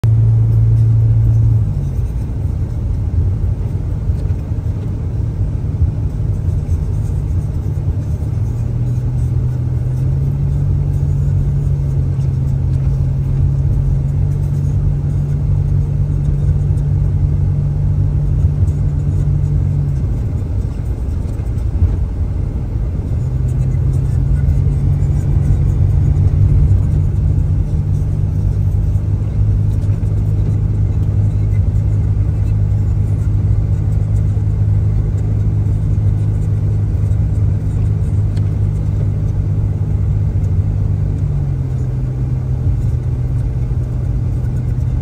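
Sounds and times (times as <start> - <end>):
car engine drone: 0.0 - 45.0
rumbling road noise: 0.0 - 45.0.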